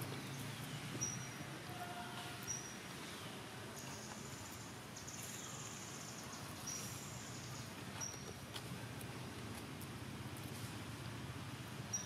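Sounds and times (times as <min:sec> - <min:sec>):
low outdoor ambient hum: 0:00.0 - 0:12.0.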